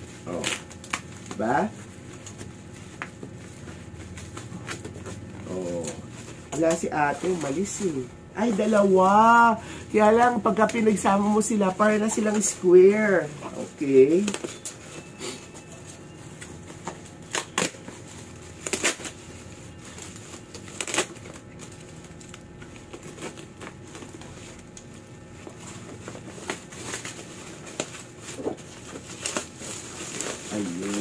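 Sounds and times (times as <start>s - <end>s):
plastic bag crinkling: 0.1s - 31.0s.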